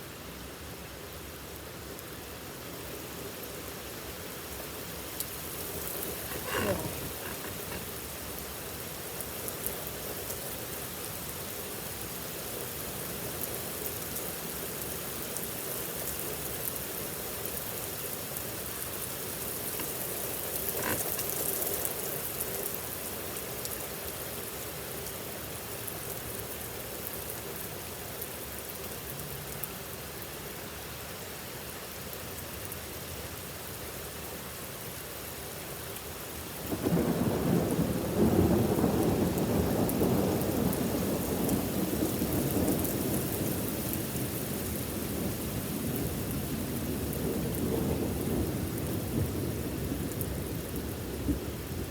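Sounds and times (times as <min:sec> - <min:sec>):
heavy rain falling: 0:02.8 - 0:51.9.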